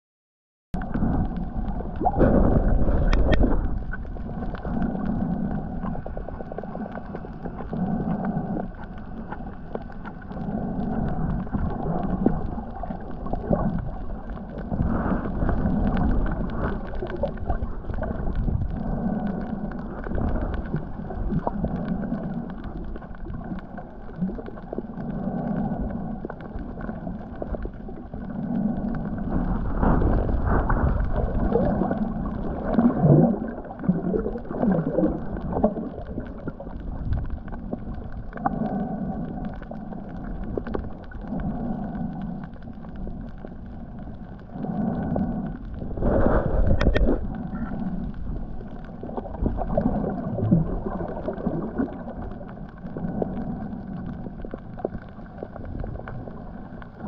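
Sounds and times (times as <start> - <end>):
faint clicking: 0.8 - 57.0
low underwater rumbles: 0.8 - 57.0
muffled underwater noise: 0.8 - 57.0.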